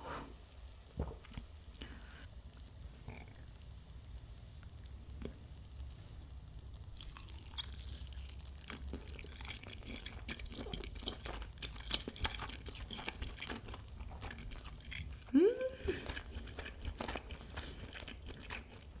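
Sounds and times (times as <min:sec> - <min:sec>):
chewing and crunching chicken: 0:01.2 - 0:19.0.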